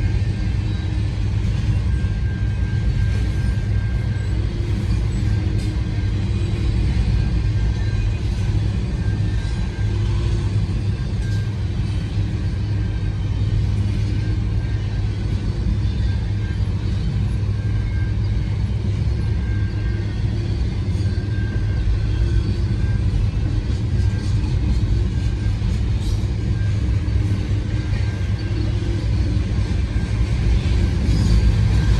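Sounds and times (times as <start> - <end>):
freight train wheels rumbling: 0.0 - 31.9.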